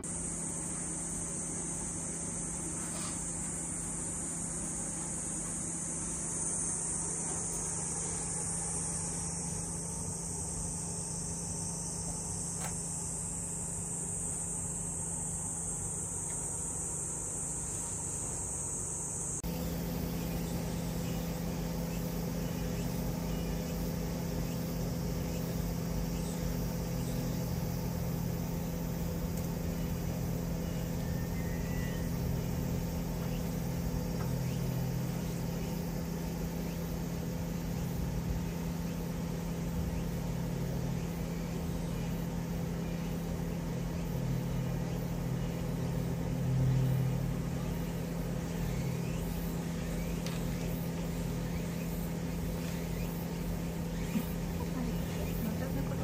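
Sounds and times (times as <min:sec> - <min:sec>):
low mechanical hum with tones: 0:00.0 - 0:56.0.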